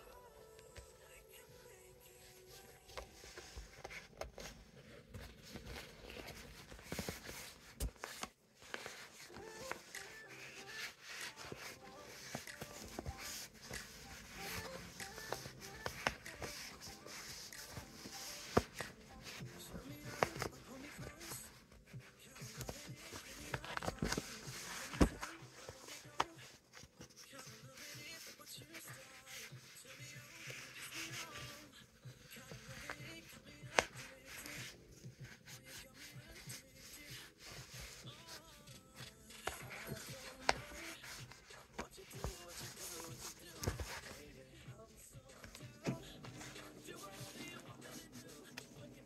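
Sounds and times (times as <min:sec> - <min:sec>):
soft handling rustles and taps: 0:02.3 - 0:49.0.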